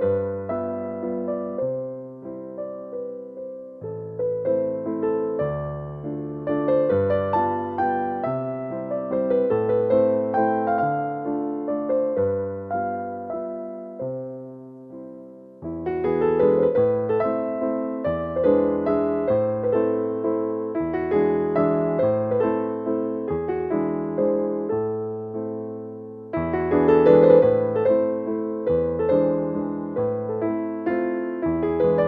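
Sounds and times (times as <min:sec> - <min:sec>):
electric piano music: 0:00.0 - 0:32.0.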